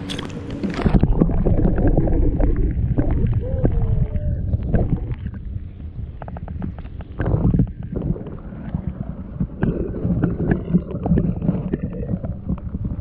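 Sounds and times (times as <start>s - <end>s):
water gurgling: 0.0s - 13.0s
water rushing over camera underwater: 0.0s - 13.0s.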